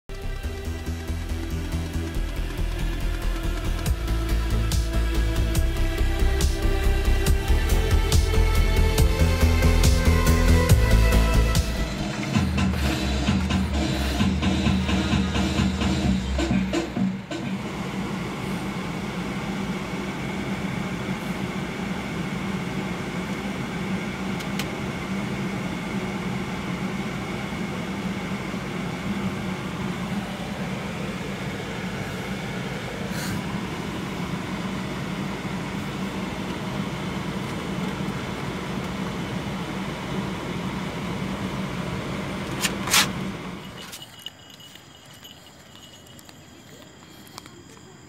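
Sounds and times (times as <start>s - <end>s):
street traffic: 0.0s - 48.0s
car cabin hum: 0.1s - 46.8s.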